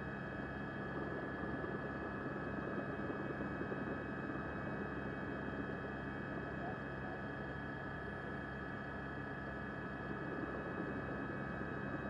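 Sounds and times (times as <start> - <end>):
mechanical hum with held tones: 0.0 - 12.0.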